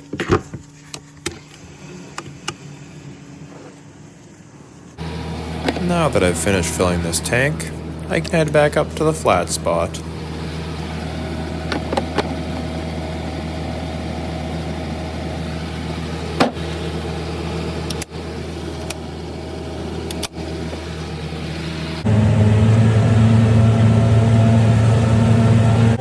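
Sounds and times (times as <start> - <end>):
loader engine running: 5.0 - 26.0.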